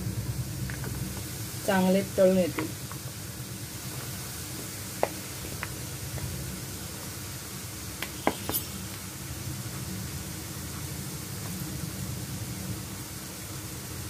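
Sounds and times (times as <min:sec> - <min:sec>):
peanuts sizzling in hot oil: 0:00.0 - 0:14.0.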